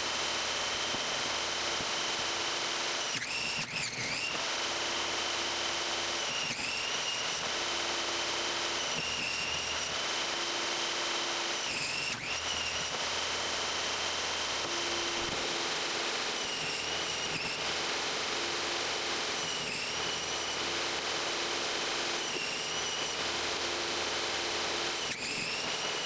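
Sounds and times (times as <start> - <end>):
table saw cutting foam: 0.0 - 26.0.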